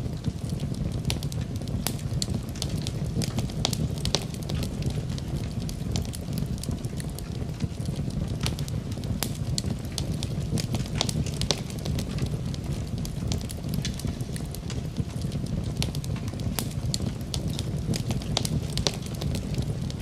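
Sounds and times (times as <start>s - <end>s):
wood fire burning: 0.0s - 20.0s.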